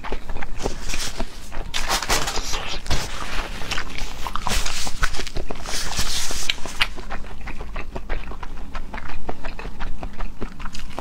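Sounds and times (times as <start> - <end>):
wet chewing and lip smacking: 0.0 - 11.0.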